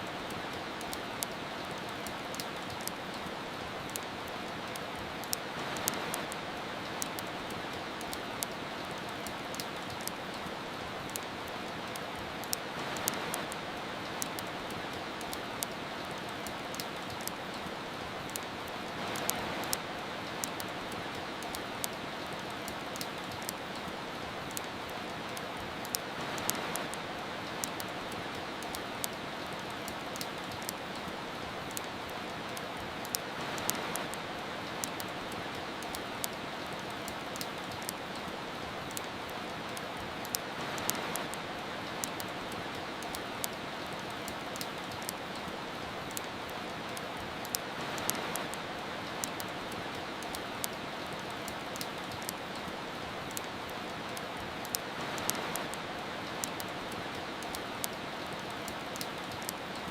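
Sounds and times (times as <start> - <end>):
soft rain hiss: 0.0 - 59.9
wood fire crackling: 0.0 - 59.9.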